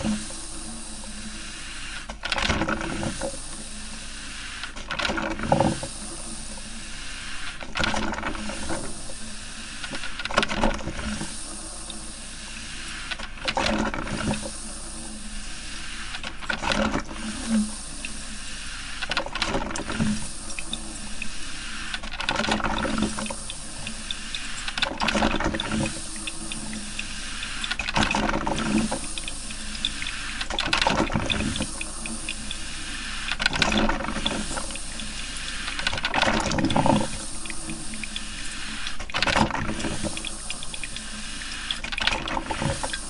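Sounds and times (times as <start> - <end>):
coffee maker hissing: 0.0 - 10.1, 10.7 - 43.0
coffee maker gurgling: 0.0 - 43.0.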